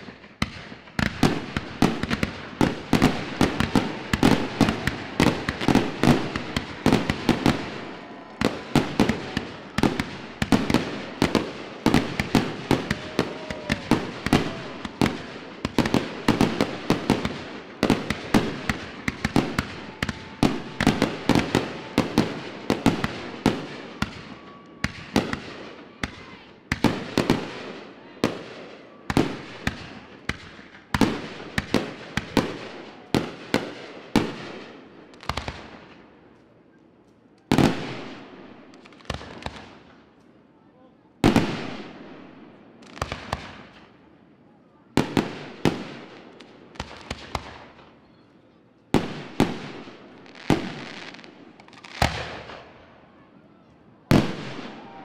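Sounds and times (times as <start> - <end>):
fireworks launching and bursting: 0.0 - 36.1, 37.5 - 40.0, 41.2 - 44.0, 45.0 - 48.0, 48.9 - 52.9, 54.1 - 55.0.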